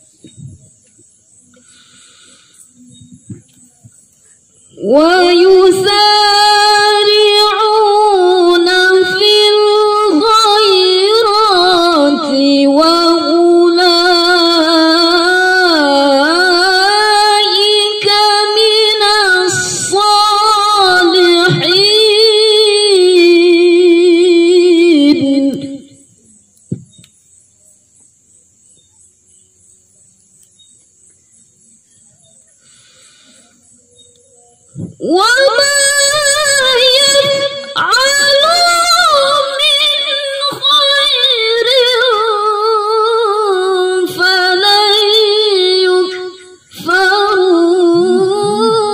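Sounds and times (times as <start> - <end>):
woman reciting melodically: 0.0 - 26.9, 32.1 - 48.9.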